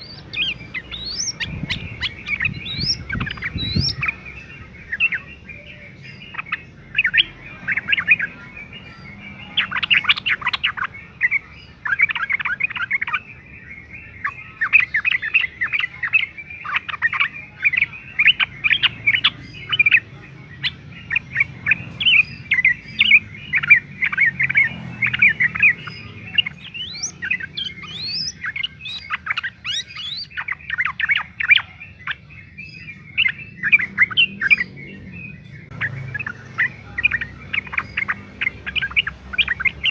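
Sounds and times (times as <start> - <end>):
bird singing fast chattering phrases: 0.0 - 39.9.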